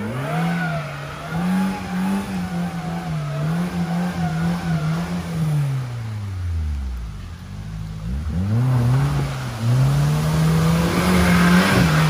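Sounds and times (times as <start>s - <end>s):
vehicle engine revving hard: 0.0s - 6.2s, 8.0s - 12.0s.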